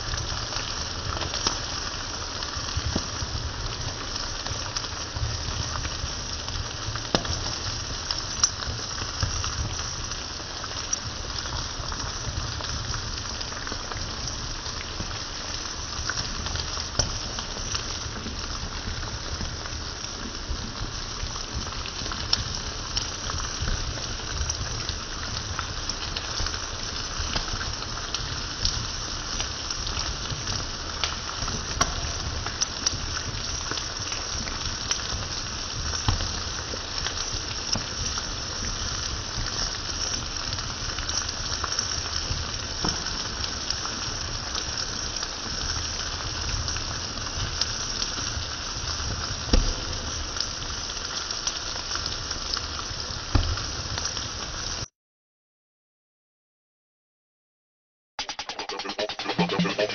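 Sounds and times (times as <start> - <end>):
food sizzling in a skillet: 0.0 - 54.8.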